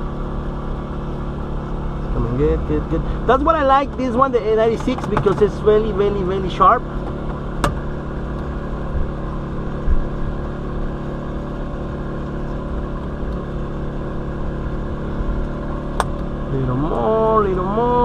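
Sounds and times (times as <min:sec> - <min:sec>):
winder motor running: 0:00.0 - 0:18.0.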